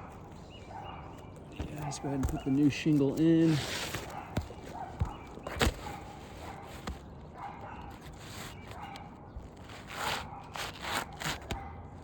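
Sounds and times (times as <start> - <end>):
scraping rustles: 1.0 - 11.5.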